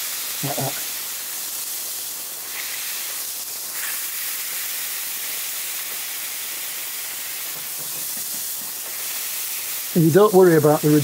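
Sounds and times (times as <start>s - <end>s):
meat patties sizzling on hot plate: 0.0s - 11.0s.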